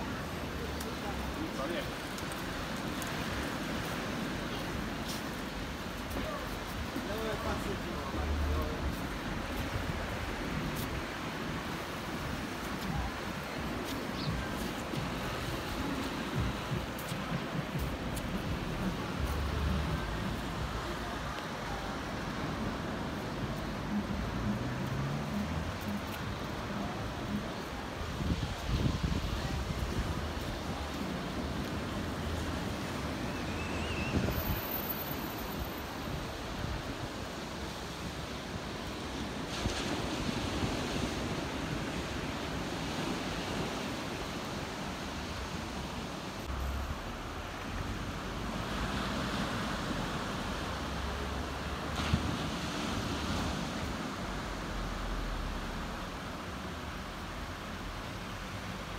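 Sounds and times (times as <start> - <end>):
cars hissing on wet street: 0.0 - 12.0, 15.1 - 44.6, 46.4 - 58.9
wind gusting on microphone: 0.0 - 55.3
small waves breaking on beach: 0.0 - 58.9.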